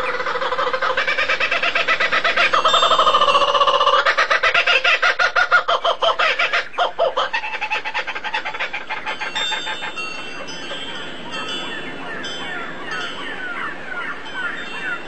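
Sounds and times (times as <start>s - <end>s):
bird clucking calls: 0.0s - 15.0s.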